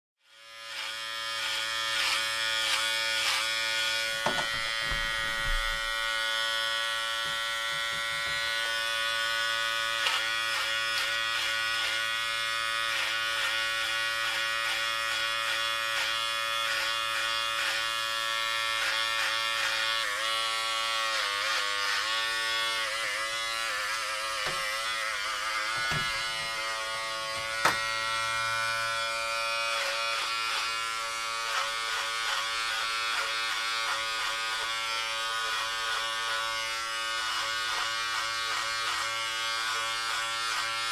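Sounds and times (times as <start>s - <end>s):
electric hair clippers buzzing: 0.2s - 40.9s.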